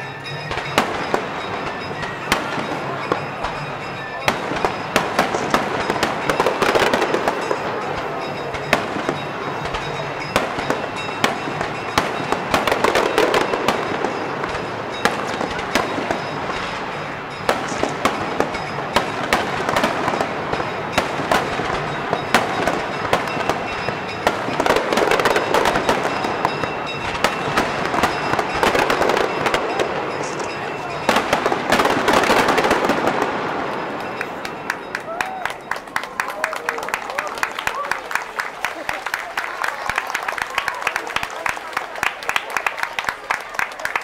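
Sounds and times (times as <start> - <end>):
fireworks bangs: 0.0 - 35.4.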